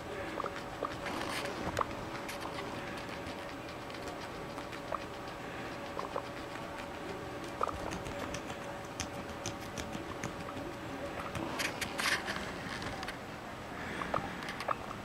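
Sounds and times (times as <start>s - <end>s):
guinea pigs munching cabbage: 0.0s - 13.2s, 13.8s - 15.0s
faint steady hum: 0.0s - 15.0s.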